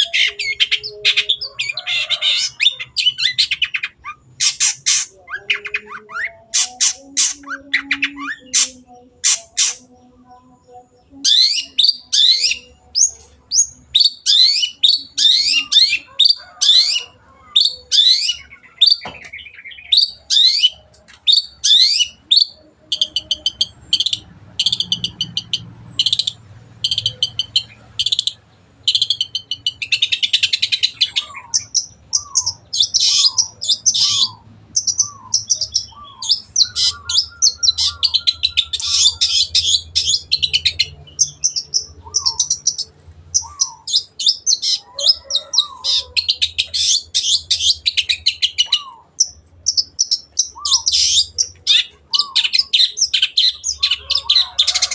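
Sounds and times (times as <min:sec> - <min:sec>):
bird singing chirps and chattering: 0:00.0 - 0:54.9.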